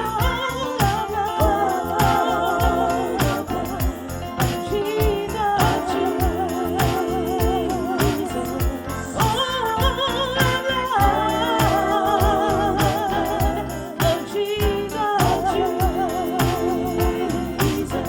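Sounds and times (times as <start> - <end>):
singer holding long notes: 0.0 - 18.0
steady drum beat: 0.0 - 18.0.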